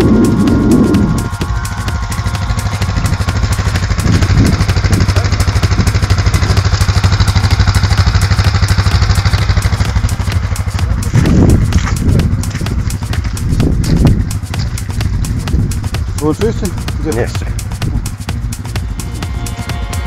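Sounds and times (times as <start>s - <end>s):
quad bike engine under load: 0.0s - 20.0s
tyres churning through mud: 0.0s - 20.0s.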